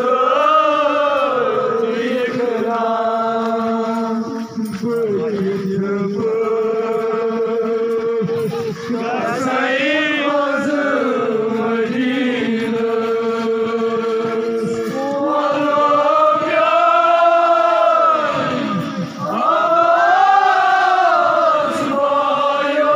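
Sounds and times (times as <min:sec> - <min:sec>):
men chanting together: 0:00.0 - 0:22.9.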